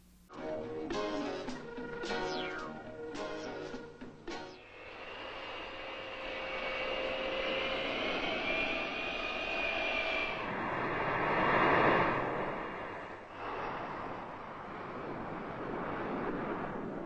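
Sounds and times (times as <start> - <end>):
jet engines whining: 1.7 - 17.0.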